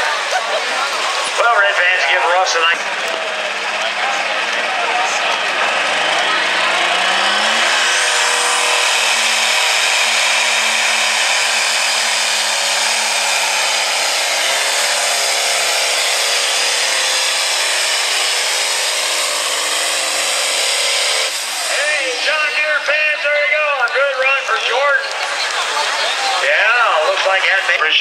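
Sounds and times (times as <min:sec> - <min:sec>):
high turbo whine: 0:00.0 - 0:28.0
tractor engine at full load: 0:00.0 - 0:28.0.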